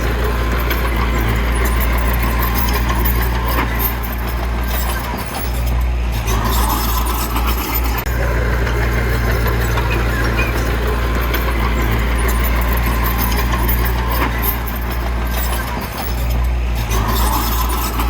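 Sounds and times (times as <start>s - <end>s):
heavy diesel engine droning: 0.0s - 18.0s.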